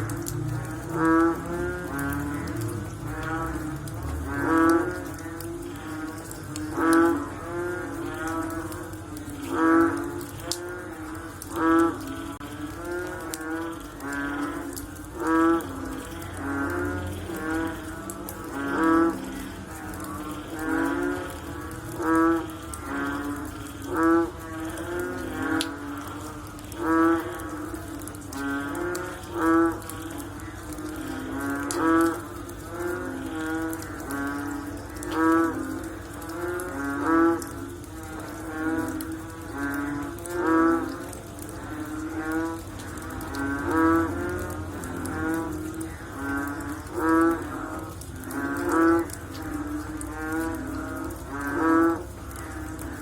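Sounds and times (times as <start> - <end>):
faint frogs answering: 0.0 - 53.0
loud pulsing frog call: 0.0 - 53.0.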